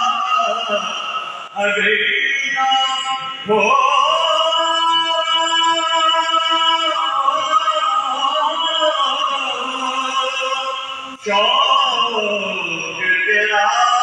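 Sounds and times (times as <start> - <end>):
man singing unaccompanied: 1.6 - 14.0.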